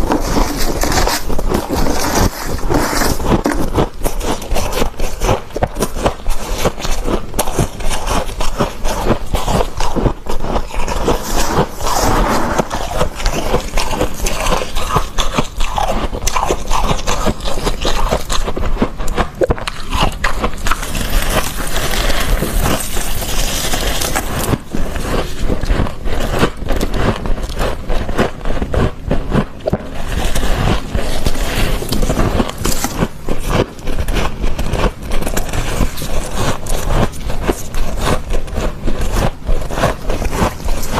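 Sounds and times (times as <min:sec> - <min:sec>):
crunching of freezer frost: 0:00.0 - 0:40.9.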